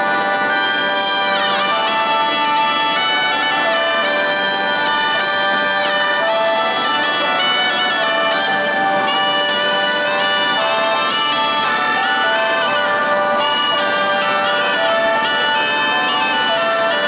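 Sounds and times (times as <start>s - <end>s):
bagpipe and shawm melody: 0.0s - 17.0s
bagpipe drones: 0.0s - 17.0s.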